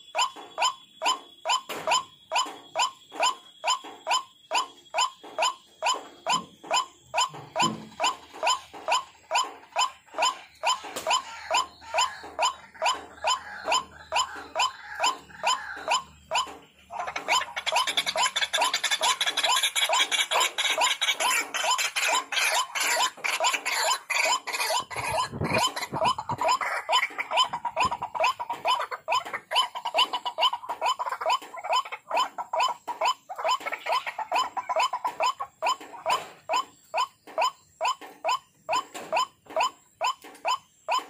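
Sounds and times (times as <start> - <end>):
waterhen calling: 5.0 - 41.0.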